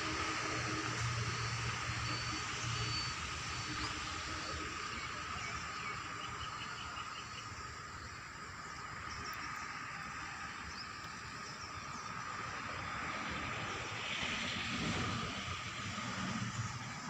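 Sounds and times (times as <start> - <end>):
steady high hum: 0.0 - 17.0.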